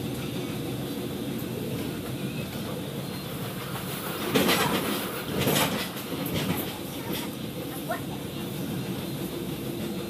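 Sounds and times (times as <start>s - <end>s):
train rattling clatter: 0.0s - 10.0s
train wheels rumbling on track: 0.0s - 10.0s.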